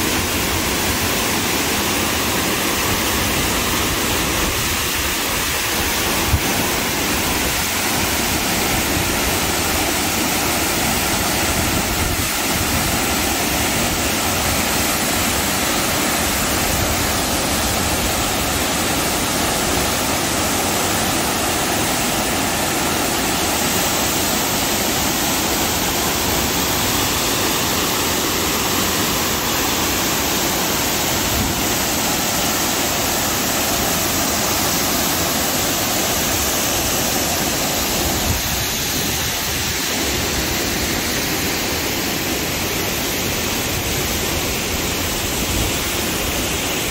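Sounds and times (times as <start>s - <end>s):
waterfall pouring over rock: 0.0s - 46.9s.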